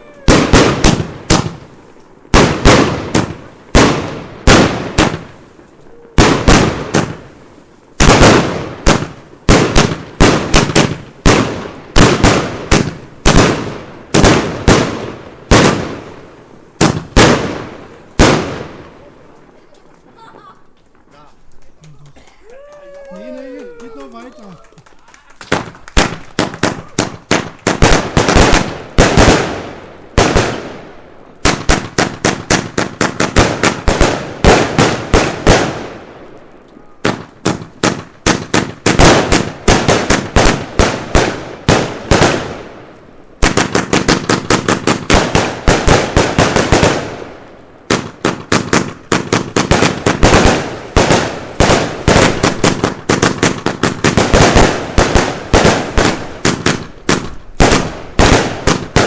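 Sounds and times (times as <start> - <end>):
fireworks firing rapid volleys: 0.0 - 22.2, 23.1 - 59.0.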